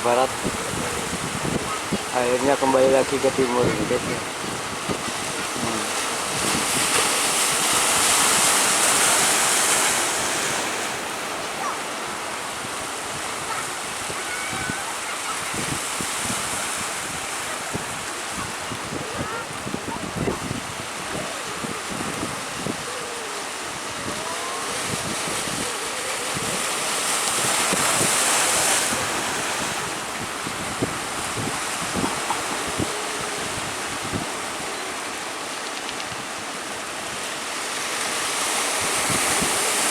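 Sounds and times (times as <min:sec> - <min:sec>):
sea surf breaking: 0:00.0 - 0:39.9
wind: 0:00.0 - 0:39.9.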